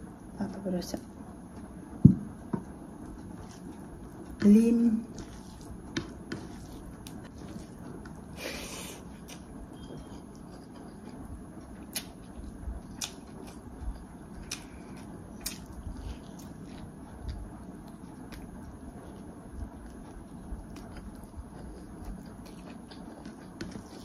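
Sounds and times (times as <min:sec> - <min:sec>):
person chewing food: 0:02.4 - 0:04.4, 0:05.0 - 0:24.0.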